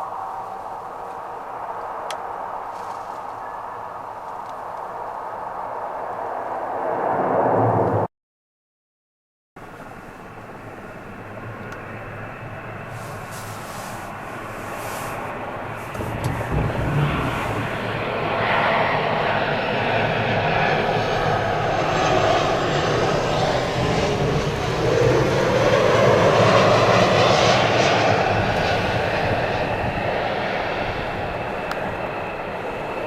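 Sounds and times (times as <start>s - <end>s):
jet engines roaring: 0.0s - 8.1s, 9.6s - 33.0s.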